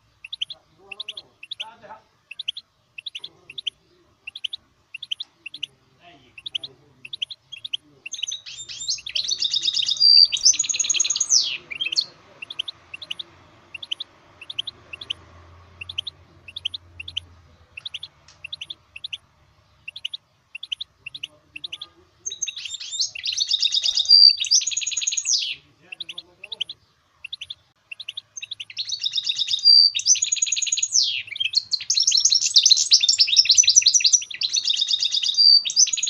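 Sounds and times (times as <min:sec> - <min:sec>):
bird trilled song: 0:00.0 - 0:36.0
short high bird chirps: 0:00.2 - 0:36.0.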